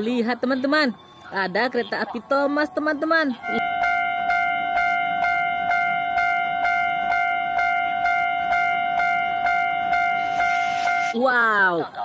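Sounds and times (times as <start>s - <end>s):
level-crossing warning bell ringing: 0.4s - 11.2s.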